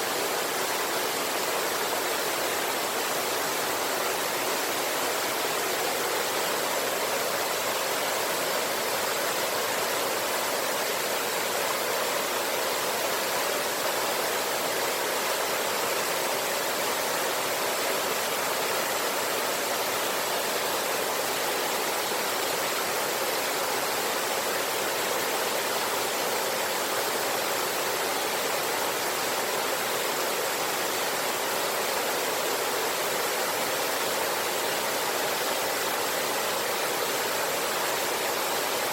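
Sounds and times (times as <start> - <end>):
river with small waterfall: 0.0 - 38.9.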